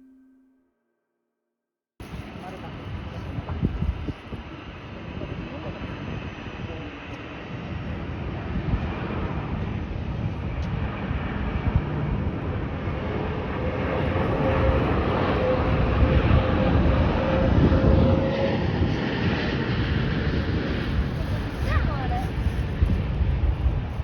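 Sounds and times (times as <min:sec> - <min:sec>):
jet engine whine: 0:02.0 - 0:24.0
jet engines rumbling: 0:02.0 - 0:24.0.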